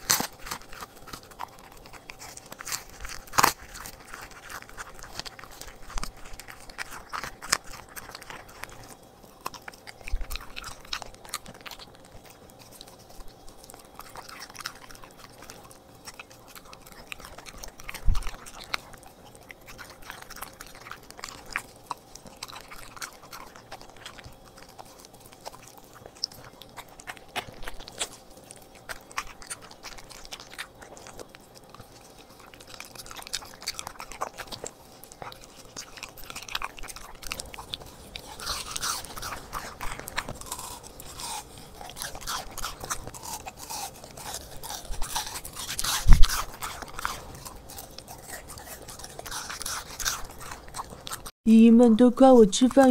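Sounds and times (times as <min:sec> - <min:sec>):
dog chewing raw meat: 0:00.0 - 0:51.4.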